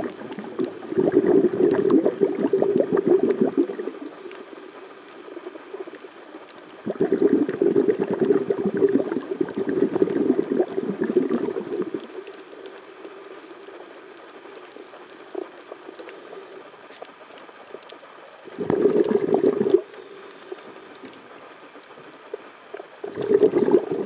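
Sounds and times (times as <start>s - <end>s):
underwater exhaled bubbles: 0.0s - 24.0s.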